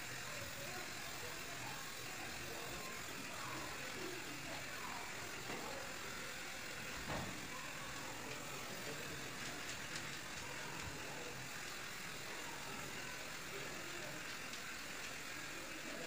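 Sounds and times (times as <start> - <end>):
constant hiss: 0.0 - 16.0
mechanical hum: 0.0 - 16.0.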